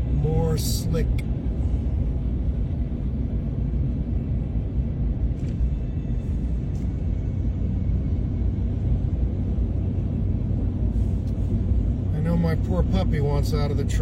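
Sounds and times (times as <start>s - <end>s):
truck engine and tyre rumble: 0.0s - 14.0s.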